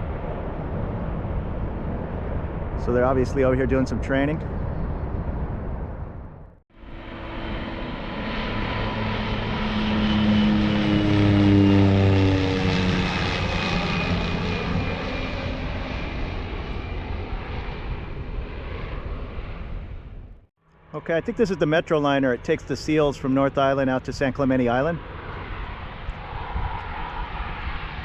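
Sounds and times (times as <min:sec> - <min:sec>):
propeller aircraft flying past: 0:00.0 - 0:28.0.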